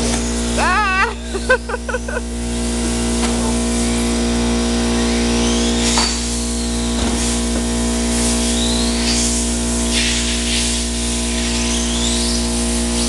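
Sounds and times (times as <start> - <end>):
electric motor whining: 0.0 - 13.0
steady hum and hiss: 0.0 - 13.0.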